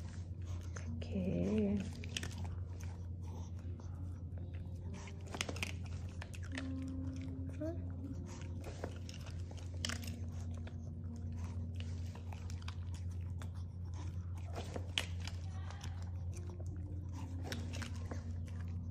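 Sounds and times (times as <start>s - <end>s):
dog crunching dry kibble: 0.0s - 18.9s
steady low hum: 0.0s - 18.9s.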